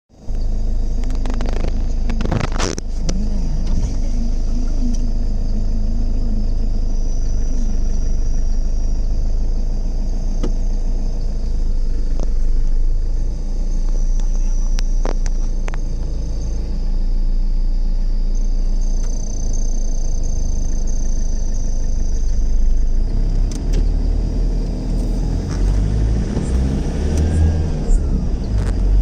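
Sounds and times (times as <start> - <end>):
vehicle engine rumbling: 0.0 - 29.0
wavering low tone: 0.1 - 29.0.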